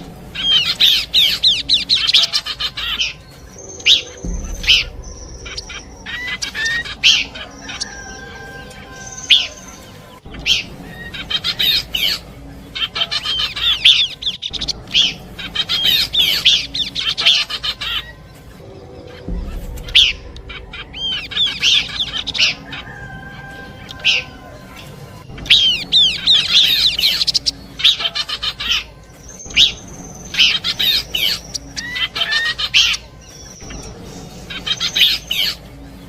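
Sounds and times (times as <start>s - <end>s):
bird rapid high chattering: 0.0s - 23.2s, 25.3s - 35.7s.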